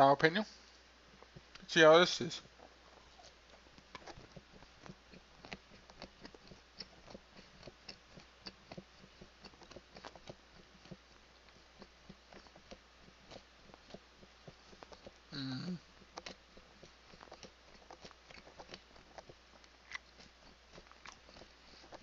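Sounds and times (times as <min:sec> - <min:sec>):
mouth clicks and smacks: 0:02.4 - 0:22.0
person chewing chicken: 0:02.5 - 0:22.0.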